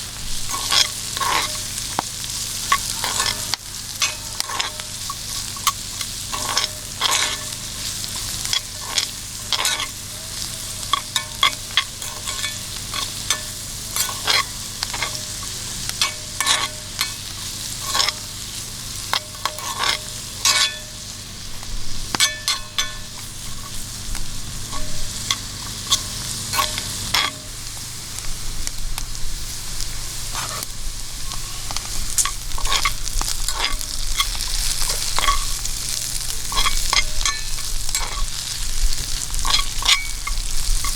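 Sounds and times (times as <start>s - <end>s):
food sizzling in hot oil: 0.0s - 40.9s
oil popping and crackling: 0.0s - 40.9s.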